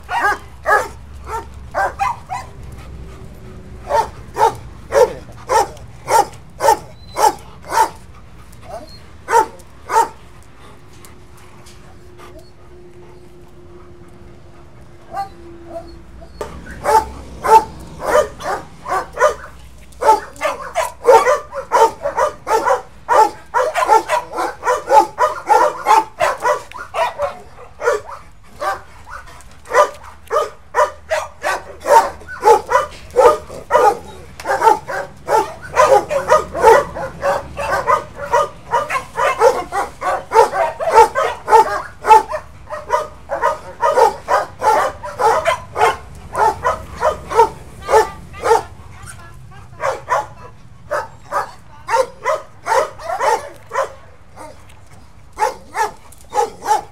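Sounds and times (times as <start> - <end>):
dog barking rapidly: 0.0 - 2.6, 3.9 - 8.0, 8.7 - 10.2, 16.5 - 48.8, 49.8 - 54.6, 55.4 - 56.9.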